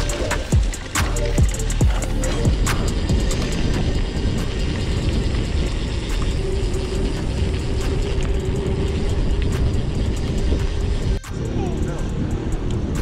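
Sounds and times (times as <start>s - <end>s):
bike freehub ratchet clicking: 0.0s - 13.0s
bike rattle and tyre noise: 0.0s - 13.0s.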